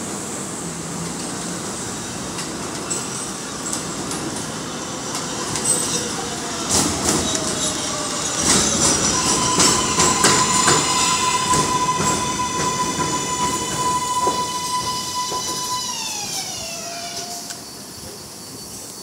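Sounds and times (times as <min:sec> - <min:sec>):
subway train wheel squeal: 0:01.2 - 0:19.0
train falling whine: 0:03.6 - 0:18.9.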